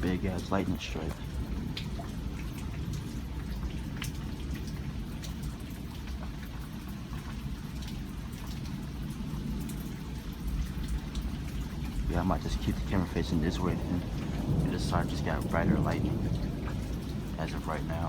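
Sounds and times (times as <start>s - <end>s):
low thunder rumble: 0.0s - 6.1s, 8.2s - 18.0s
drops ticking close by: 0.0s - 18.0s
rain falling steadily: 0.0s - 18.0s.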